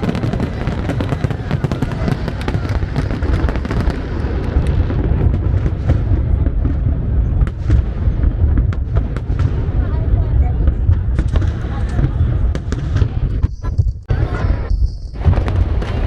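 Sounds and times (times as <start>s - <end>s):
fireworks crackling and popping: 0.0s - 16.0s
low rumble of fireworks bursts: 0.0s - 16.0s.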